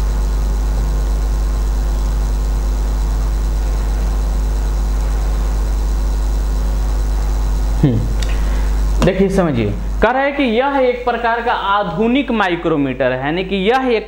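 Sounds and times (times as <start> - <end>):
faint steady tones: 0.0 - 14.0
steady low hum: 0.0 - 14.0.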